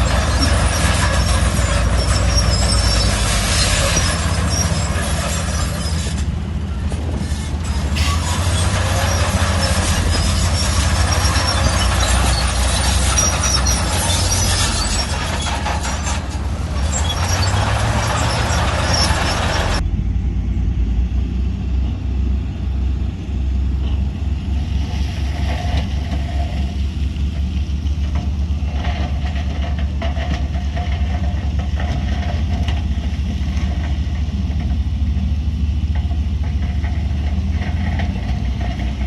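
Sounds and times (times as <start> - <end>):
dense rattling and scraping: 0.0 - 19.9, 23.7 - 39.0
diesel machinery engine pulsing: 0.0 - 39.0.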